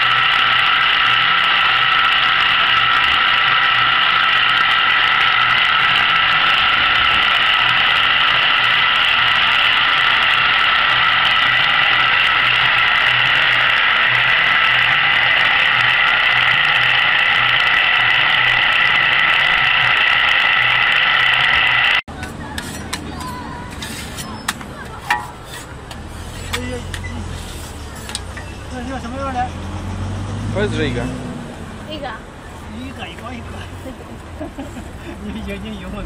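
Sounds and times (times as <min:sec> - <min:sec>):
electric gear motors whining: 0:00.0 - 0:30.3.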